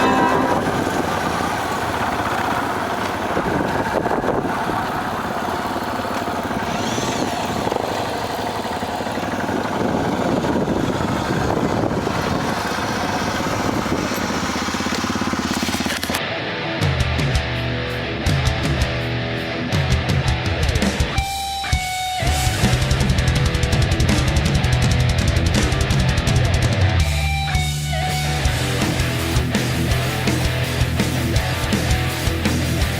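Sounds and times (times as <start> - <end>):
motorcycle engine running: 0.0 - 16.2, 19.7 - 32.9.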